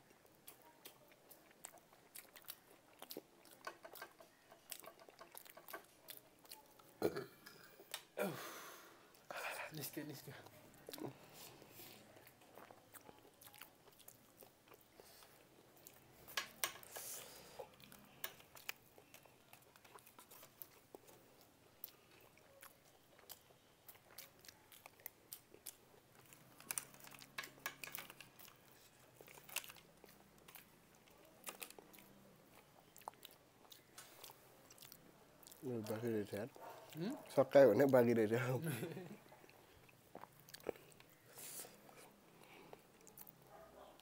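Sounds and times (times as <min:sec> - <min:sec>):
wet chewing with soft crunches: 0:00.0 - 0:08.2, 0:09.1 - 0:44.0.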